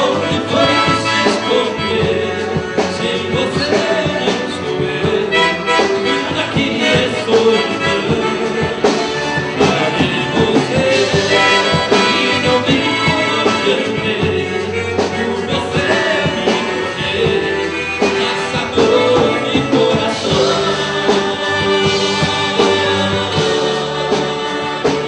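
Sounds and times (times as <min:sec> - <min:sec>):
band with drums: 0:00.0 - 0:25.0
male duo singing: 0:00.0 - 0:25.0.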